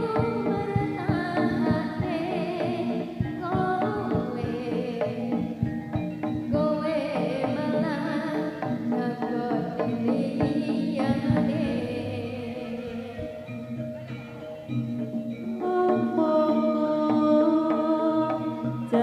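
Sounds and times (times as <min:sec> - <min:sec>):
person singing: 0:00.0 - 0:14.8, 0:15.6 - 0:19.0
drums beating busy rhythm: 0:00.0 - 0:19.0
steady held tones: 0:00.0 - 0:19.0.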